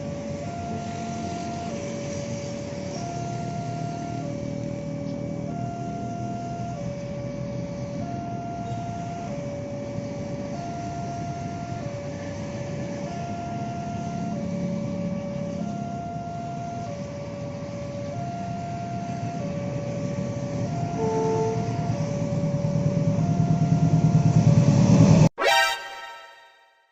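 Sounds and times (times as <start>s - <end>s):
two-tone electronic alarm: 0.0s - 26.7s.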